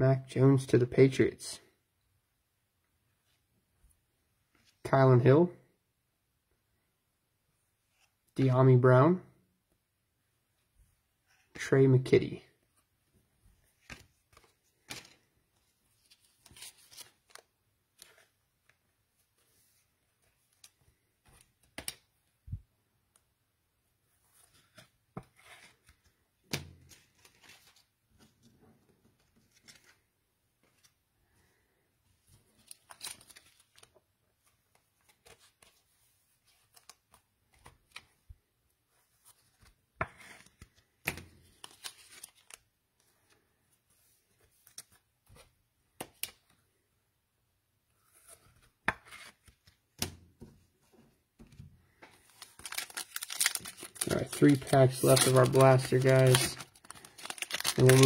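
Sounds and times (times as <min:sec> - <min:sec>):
soft rustling of card packs: 0:03.0 - 0:05.4, 0:10.4 - 0:47.0, 0:47.8 - 0:58.0.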